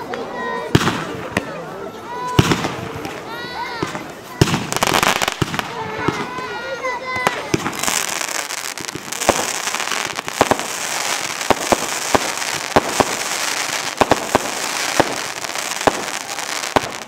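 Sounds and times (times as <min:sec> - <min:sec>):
fireworks banging: 0:00.0 - 0:17.0
fireworks hissing: 0:02.5 - 0:17.0.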